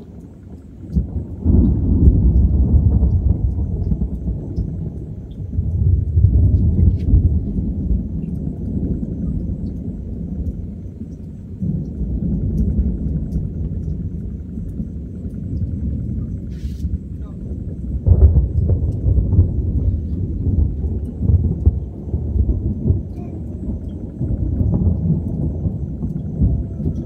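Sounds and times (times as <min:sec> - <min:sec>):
thunder rumbling: 0:00.0 - 0:27.0.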